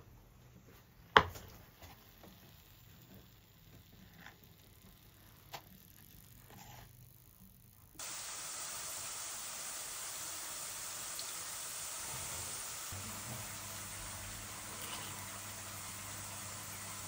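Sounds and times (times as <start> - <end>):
slices frying in hot oil: 1.4 - 17.0.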